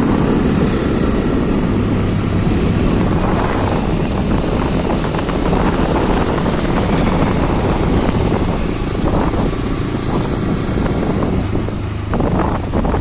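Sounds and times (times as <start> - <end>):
road vehicle rumbling: 0.0 - 13.0.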